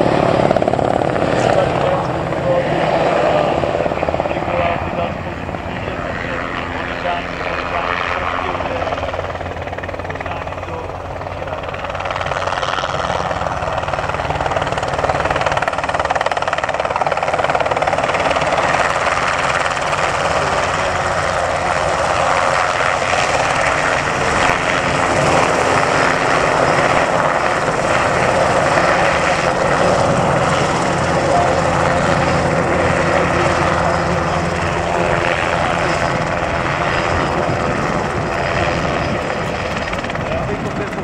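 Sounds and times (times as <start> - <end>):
helicopter engine and rotors: 0.0 - 41.0.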